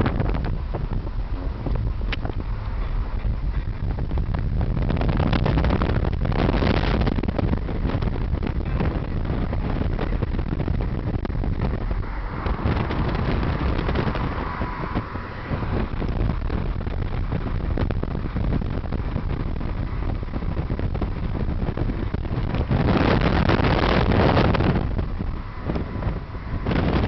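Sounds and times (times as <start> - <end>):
car road and engine noise: 0.0 - 27.0
wind rushing over microphone: 0.0 - 27.0.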